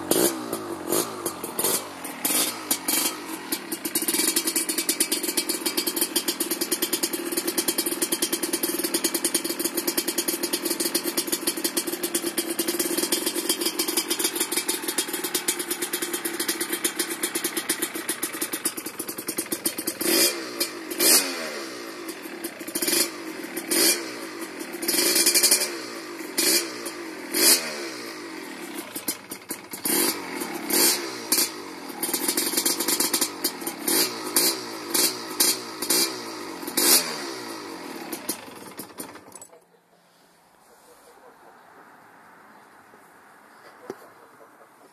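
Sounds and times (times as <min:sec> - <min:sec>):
two-stroke engine revving: 0:00.0 - 0:39.6.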